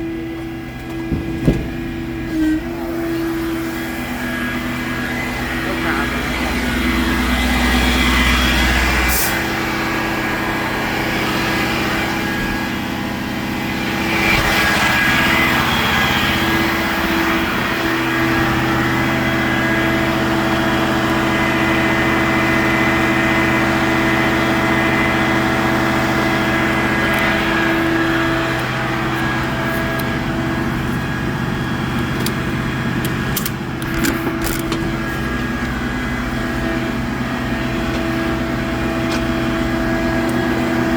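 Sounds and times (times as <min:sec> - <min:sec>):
tow truck engine running: 0:00.0 - 0:40.9.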